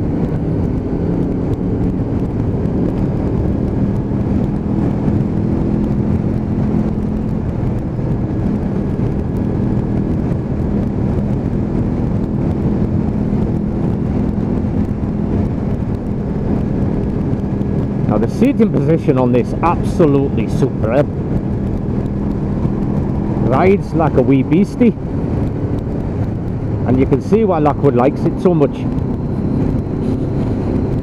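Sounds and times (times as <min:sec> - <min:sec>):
motorcycle engine cruising: 0:00.0 - 0:31.0
rushing wind: 0:00.0 - 0:31.0.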